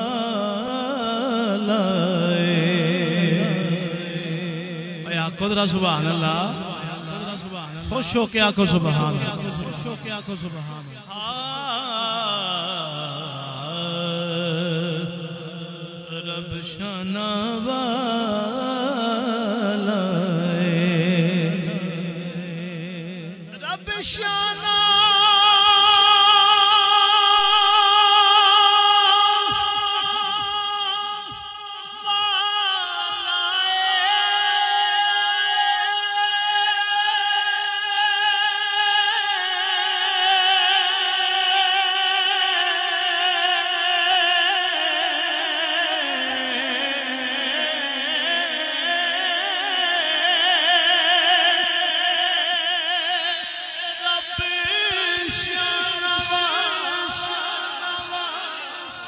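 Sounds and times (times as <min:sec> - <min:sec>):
man singing through loudspeakers: 0:00.0 - 0:59.0.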